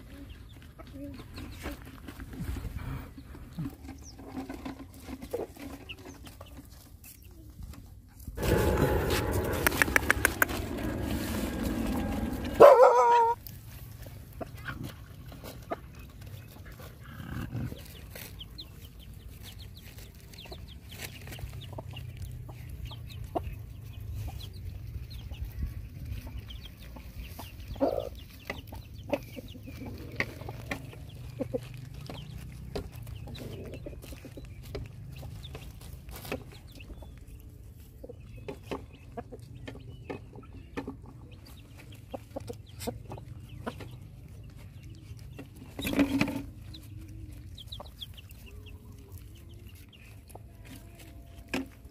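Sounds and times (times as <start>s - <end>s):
chickens clucking: 0.0s - 51.9s
puppies eating crunching: 0.0s - 51.9s.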